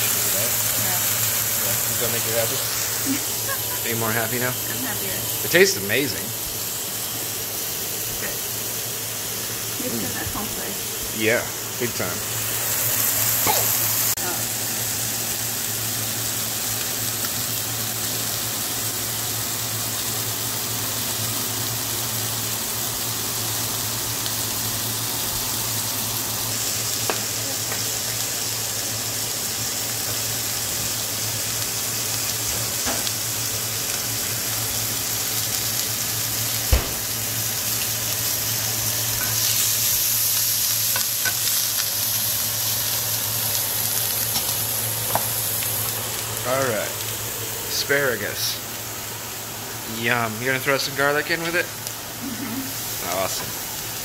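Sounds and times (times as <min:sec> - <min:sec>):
oil sizzling in a frying pan: 0:00.0 - 0:54.0.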